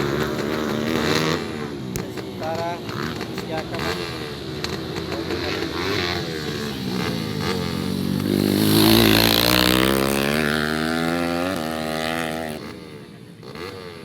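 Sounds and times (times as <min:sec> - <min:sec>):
motorcycles revving hard: 0:00.0 - 0:14.0.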